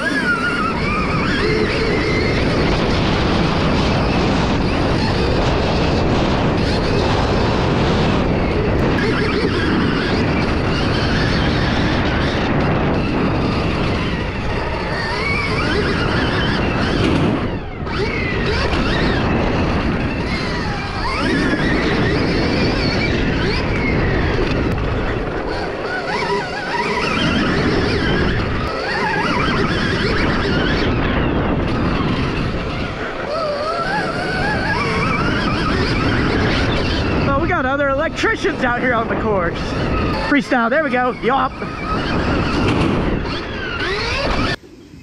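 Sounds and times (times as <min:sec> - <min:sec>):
wind and tyre noise: 0:00.0 - 0:45.0.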